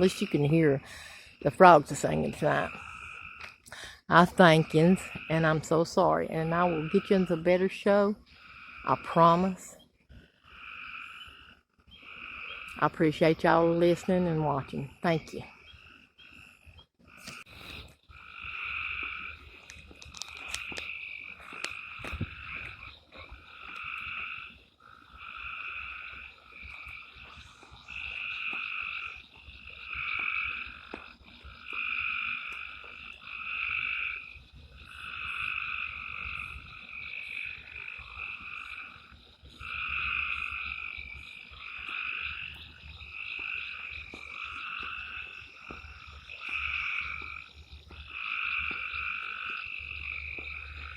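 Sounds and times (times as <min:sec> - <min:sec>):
frogs calling: 0:00.0 - 0:50.9.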